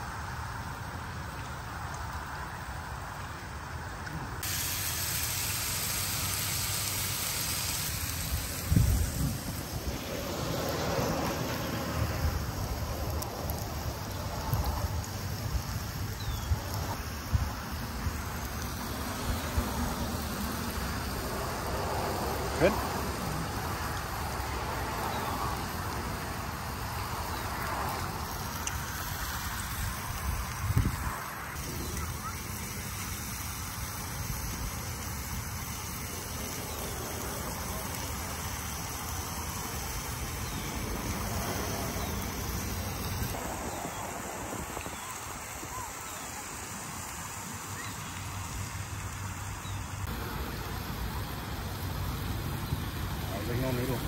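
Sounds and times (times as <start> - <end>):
steak sizzling on a grill pan: 4.4 - 54.0
low fluctuating outdoor rumble: 7.8 - 54.0.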